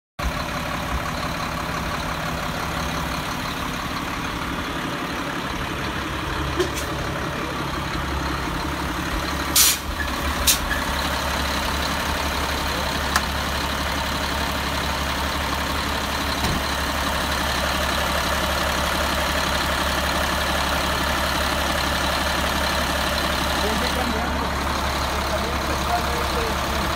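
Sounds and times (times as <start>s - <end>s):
diesel truck engine idling: 0.2s - 26.9s.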